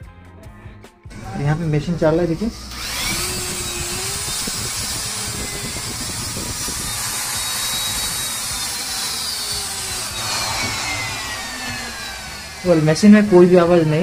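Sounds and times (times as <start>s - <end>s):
angle grinder motor whining: 1.1s - 14.0s.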